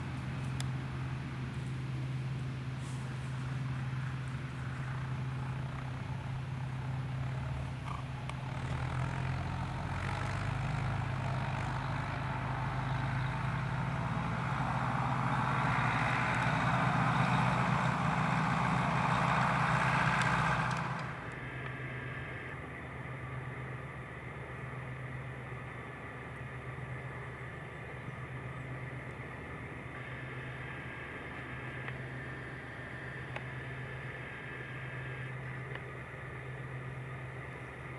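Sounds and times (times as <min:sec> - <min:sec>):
tractor diesel engine passing: 0:00.0 - 0:37.9.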